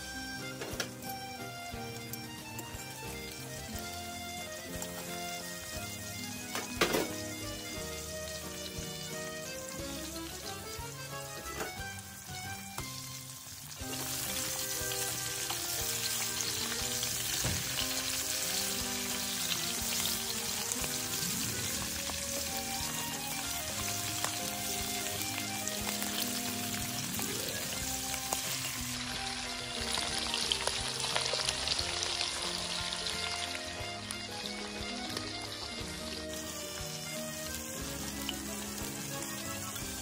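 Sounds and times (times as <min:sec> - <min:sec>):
fish sizzling in oil: 0:00.0 - 0:40.0
soft background music: 0:00.0 - 0:40.0.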